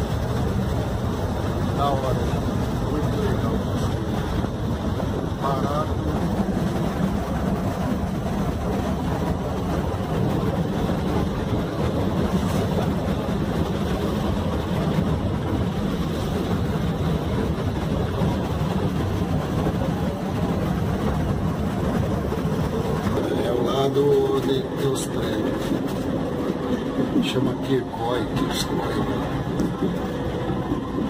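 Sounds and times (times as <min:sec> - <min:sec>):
churning wake rushing: 0:00.0 - 0:31.0
ferry engine drone: 0:00.0 - 0:31.0.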